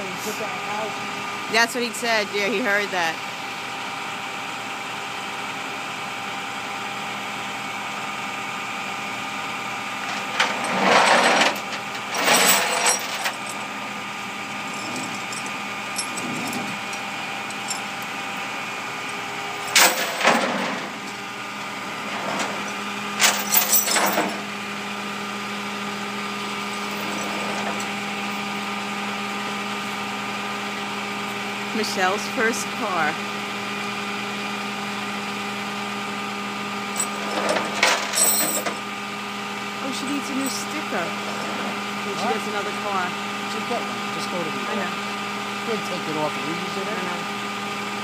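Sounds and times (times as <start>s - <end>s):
tow truck engine hum: 0.0s - 48.0s.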